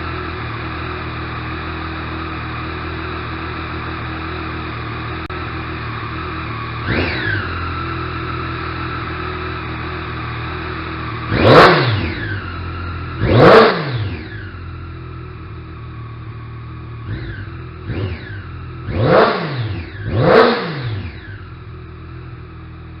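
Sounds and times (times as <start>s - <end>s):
motorcycle engine idling and revving: 0.0s - 23.0s.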